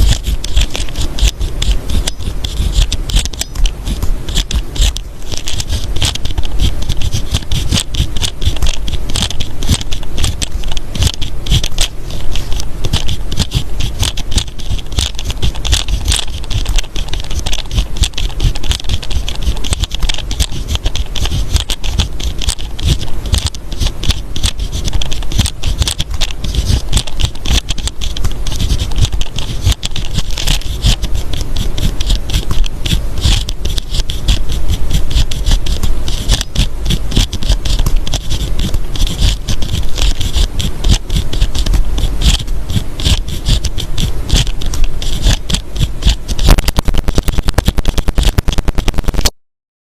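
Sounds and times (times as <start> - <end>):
pen writing on paper: 0.0 - 49.3.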